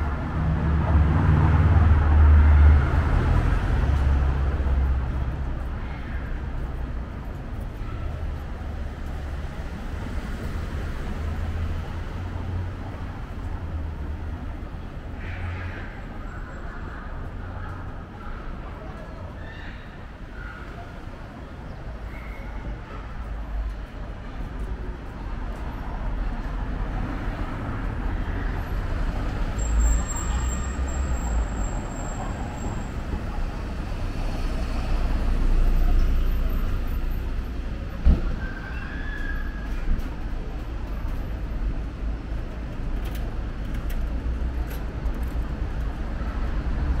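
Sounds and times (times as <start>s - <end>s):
street traffic rumble: 0.0s - 47.0s.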